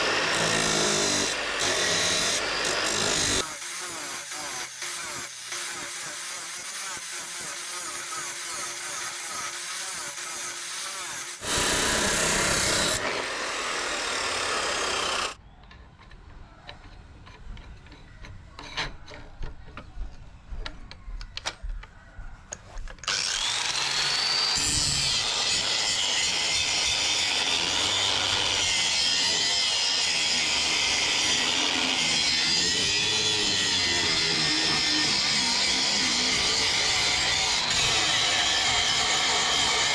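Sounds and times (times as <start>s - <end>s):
power tool grinding steel: 0.0s - 15.4s, 23.0s - 39.9s.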